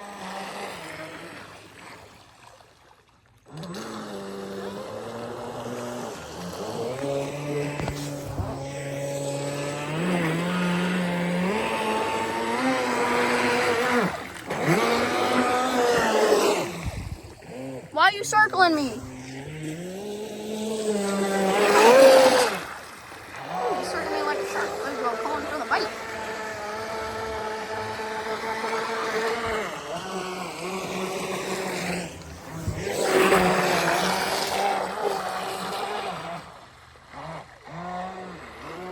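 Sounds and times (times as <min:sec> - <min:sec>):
model boat motor whining: 0:00.0 - 0:02.4, 0:03.1 - 0:38.9.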